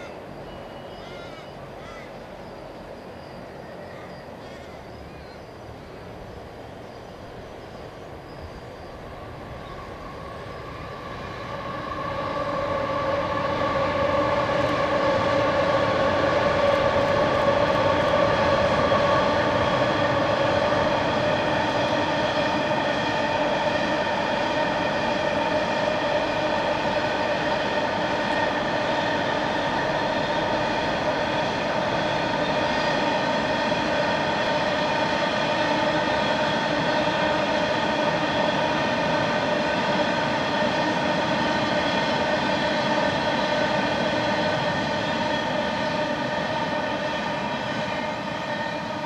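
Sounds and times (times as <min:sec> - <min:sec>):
ringing hum of bridge: 0:00.0 - 0:49.0
train wheels rumbling on rails: 0:00.0 - 0:49.0.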